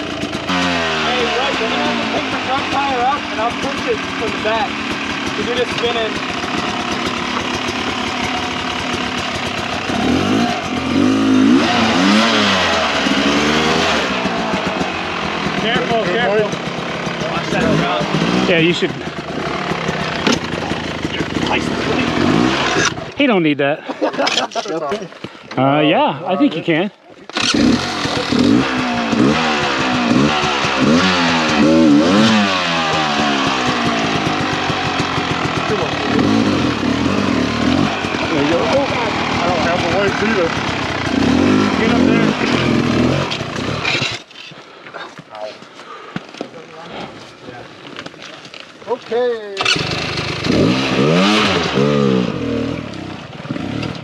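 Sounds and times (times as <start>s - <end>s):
dirt bike engine revving: 0.0s - 23.5s, 26.3s - 44.3s, 49.1s - 54.0s.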